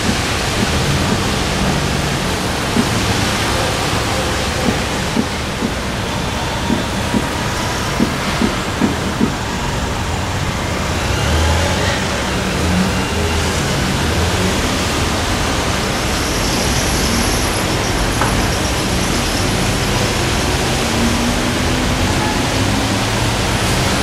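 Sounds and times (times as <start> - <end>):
vehicle engines humming: 0.0 - 24.0.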